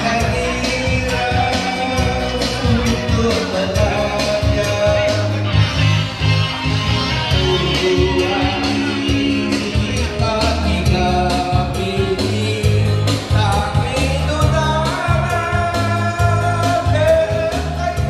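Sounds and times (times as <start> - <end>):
man singing into microphone: 0.0 - 6.1, 7.2 - 18.0
amplified backing music with beat: 0.0 - 18.0.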